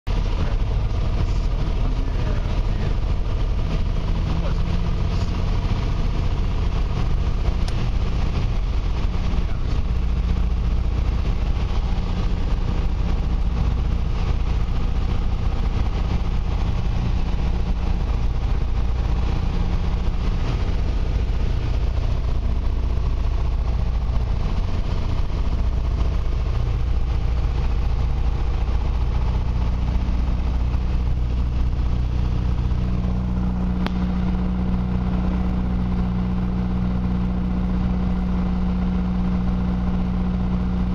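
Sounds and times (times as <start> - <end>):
propeller plane engine drone: 0.1 - 40.9.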